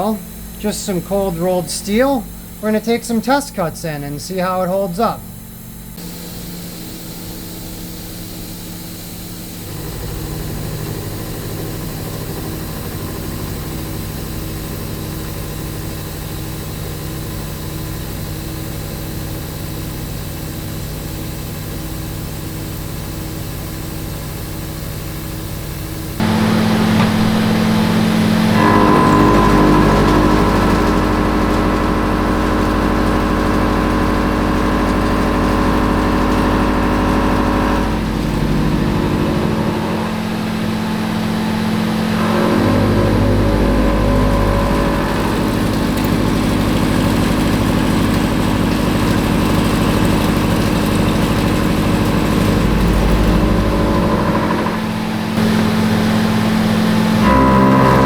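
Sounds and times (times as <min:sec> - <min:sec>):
milling machine cutting steel: 0:00.0 - 0:22.5, 0:26.0 - 0:58.0.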